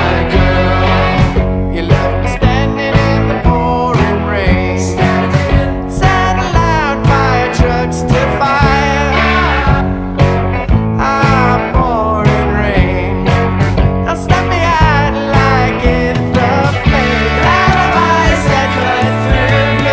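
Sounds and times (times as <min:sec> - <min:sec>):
person singing: 0:00.0 - 0:10.2, 0:11.0 - 0:13.4, 0:14.1 - 0:19.9
indie rock band playing: 0:00.0 - 0:19.9.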